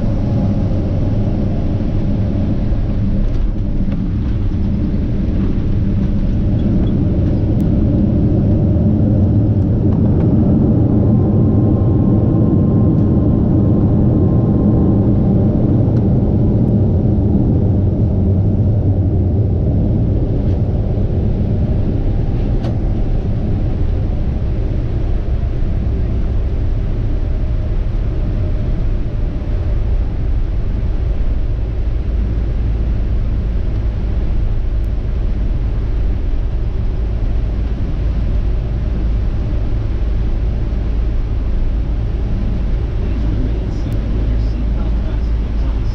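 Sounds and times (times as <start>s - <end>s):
jet engines and airframe rumbling: 0.0s - 45.9s.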